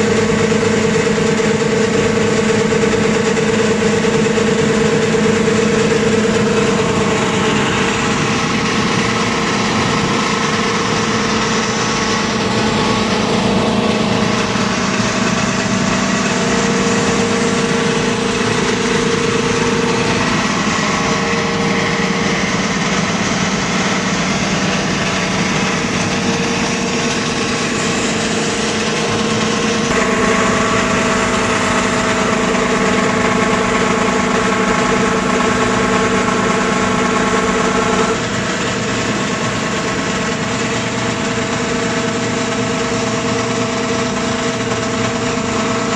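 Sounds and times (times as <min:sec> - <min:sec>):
granulator machine hum: 0:00.0 - 0:45.9.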